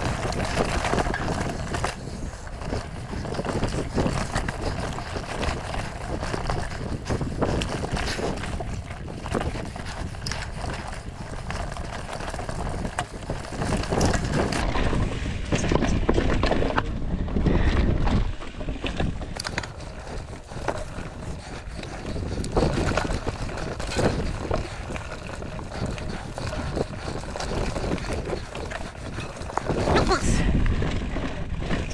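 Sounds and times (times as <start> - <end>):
bike clicks and knocks: 0.0 - 30.0
bike tyres crunching leaves: 0.0 - 31.9
wind buffeting microphone: 0.0 - 31.9.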